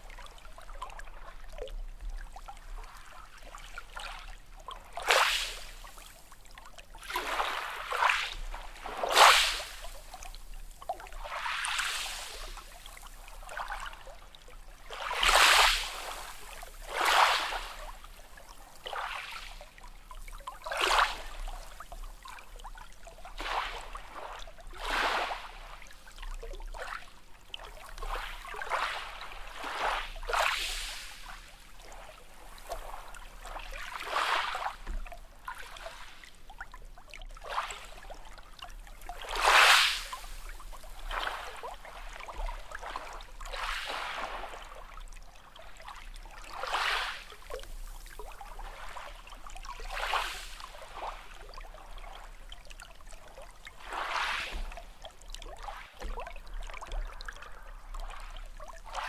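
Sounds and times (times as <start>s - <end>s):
sea waves lapping and splashing: 0.0s - 59.0s.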